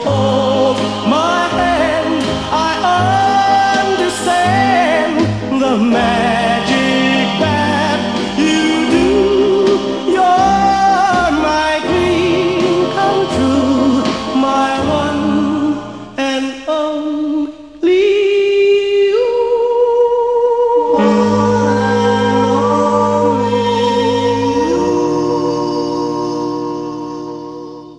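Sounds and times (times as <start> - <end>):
musical accompaniment: 0.0 - 16.7, 20.9 - 27.9
person singing love song: 0.0 - 27.9.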